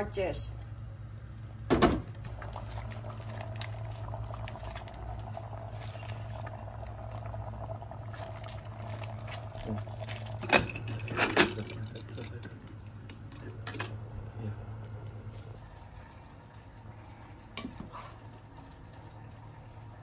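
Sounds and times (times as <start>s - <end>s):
low steady hum: 0.0s - 20.0s
curry bubbling in a pot: 0.7s - 13.3s, 14.6s - 20.0s.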